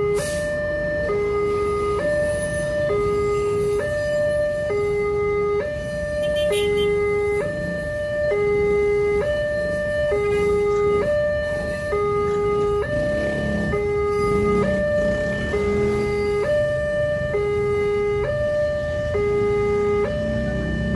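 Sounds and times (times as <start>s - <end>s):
level crossing two-tone alarm: 0.0s - 20.9s.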